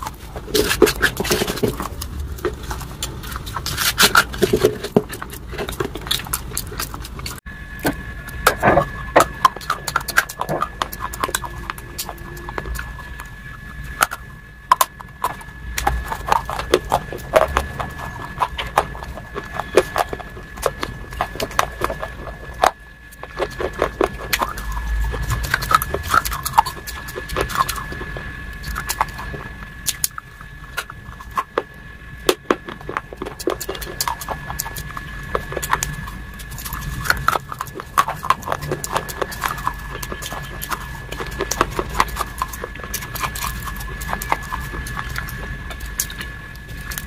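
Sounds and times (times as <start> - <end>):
wet smacking and chewing: 0.0 - 7.4, 8.3 - 47.0
chewing with clicks and crackles: 0.0 - 47.0
faint steady high tone: 7.4 - 47.0.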